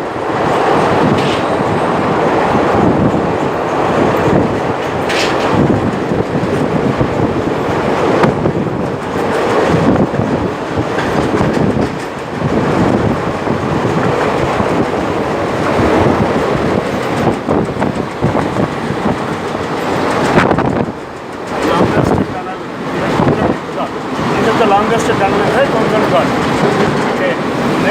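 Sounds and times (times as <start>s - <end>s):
train rumbling on rails: 0.0s - 27.9s
wheels clattering over track: 2.3s - 27.9s.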